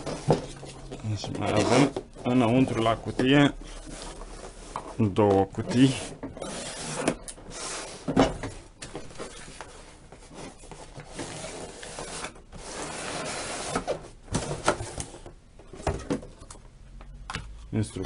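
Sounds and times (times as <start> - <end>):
cardboard boxes sliding and scraping: 0.0 - 15.3.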